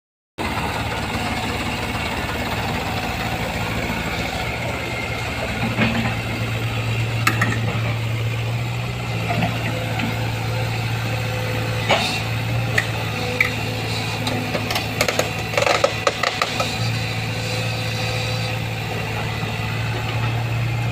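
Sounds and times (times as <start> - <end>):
heavy vehicle engine humming: 0.4 - 20.9.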